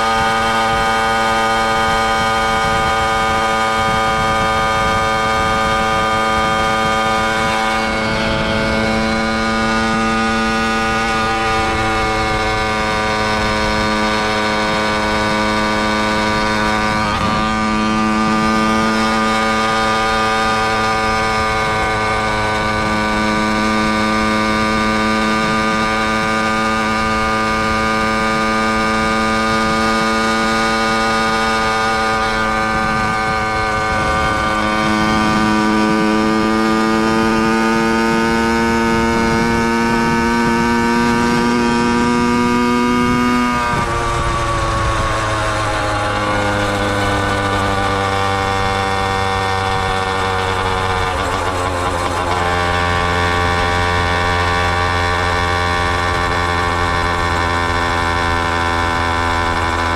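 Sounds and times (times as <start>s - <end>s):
small motorized bicycle engine: 0.0s - 59.9s.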